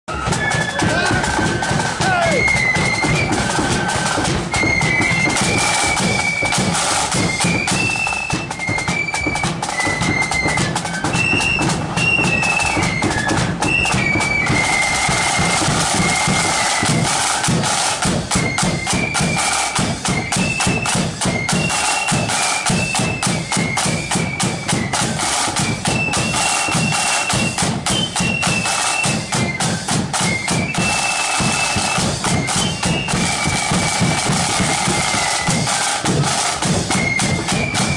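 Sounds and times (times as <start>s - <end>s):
flutes playing melody: 0.1s - 37.9s
marching drums: 0.1s - 37.9s.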